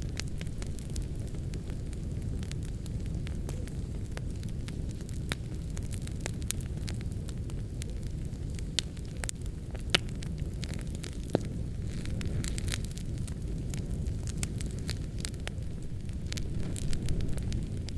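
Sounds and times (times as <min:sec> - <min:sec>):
wood fire crackling: 0:00.0 - 0:17.9.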